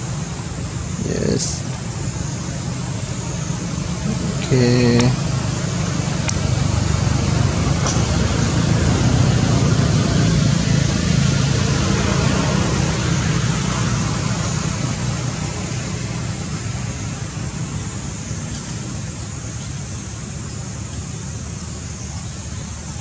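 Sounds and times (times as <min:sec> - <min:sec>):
even hiss: 0:00.0 - 0:23.0.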